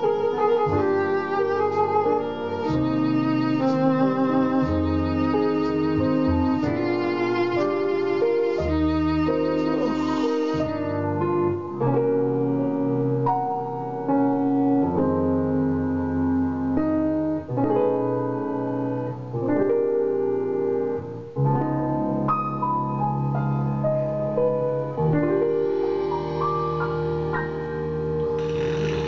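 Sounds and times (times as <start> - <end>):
slow ballad on synth keyboard: 0.0 - 29.0.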